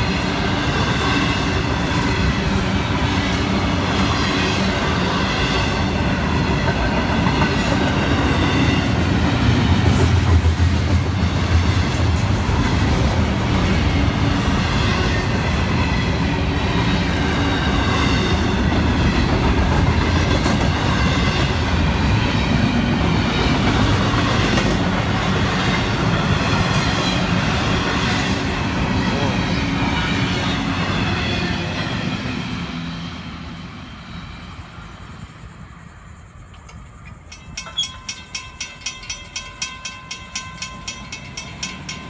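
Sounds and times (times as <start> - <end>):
freight train wheels on rails: 0.0 - 42.0.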